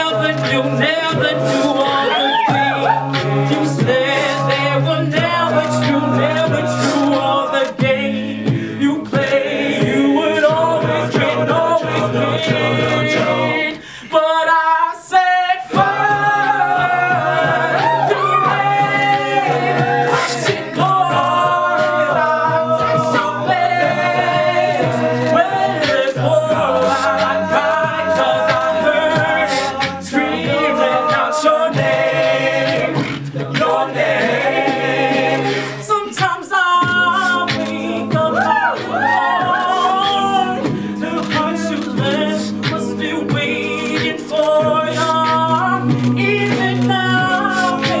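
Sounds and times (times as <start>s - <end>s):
male soloist singing: 0.0s - 34.0s, 35.4s - 48.0s
backing vocal harmonies: 0.0s - 48.0s
beatboxed vocal percussion: 0.0s - 48.0s.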